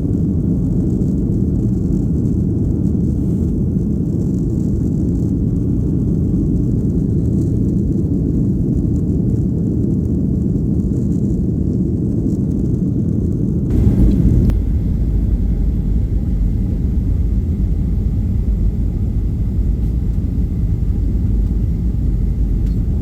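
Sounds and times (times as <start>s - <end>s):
airflow over fuselage: 0.0s - 23.0s
airplane cabin engine rumble: 0.0s - 23.0s.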